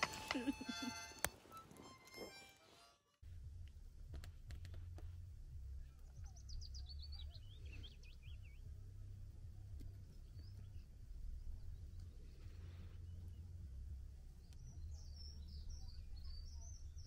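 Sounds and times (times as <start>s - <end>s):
low steady rumble: 3.2s - 17.0s.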